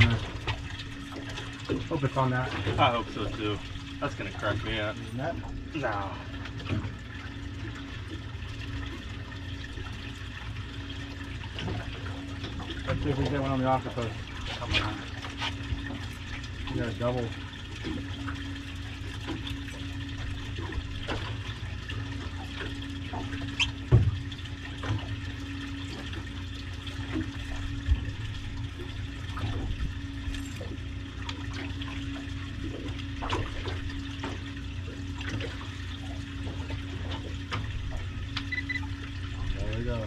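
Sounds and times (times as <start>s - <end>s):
low mechanical hum: 0.0s - 40.0s
water sloshing against hull: 0.0s - 40.0s.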